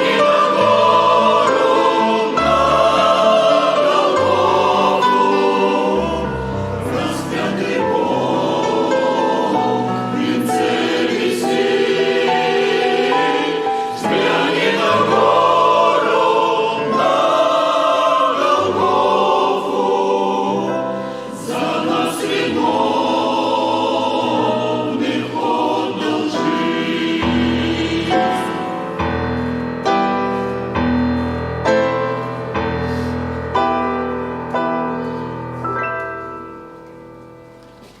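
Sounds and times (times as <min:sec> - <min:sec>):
choir singing a hymn: 0:00.0 - 0:35.2
instrumental accompaniment: 0:00.0 - 0:38.0.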